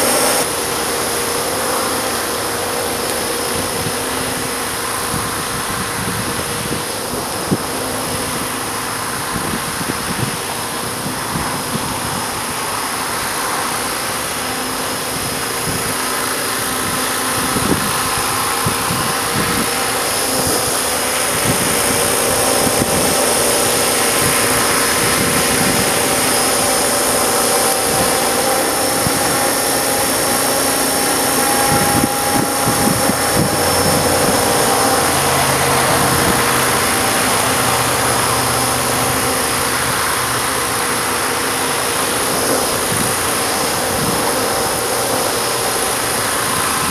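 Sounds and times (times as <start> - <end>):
model helicopter motor whine: 0.0 - 46.9
wind buffeting microphone: 0.0 - 46.9.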